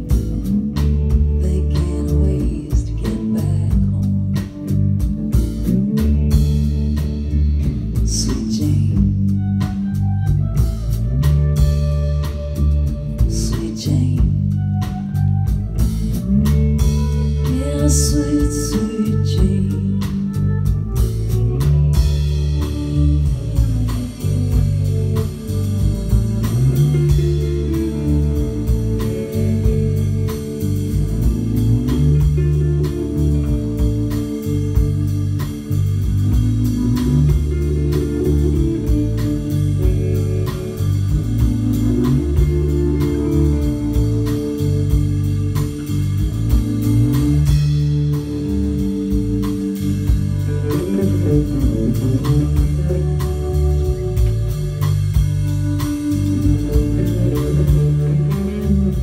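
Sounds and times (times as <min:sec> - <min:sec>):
drum kit: 0:00.0 - 0:59.0
electric bass line: 0:00.0 - 0:59.0.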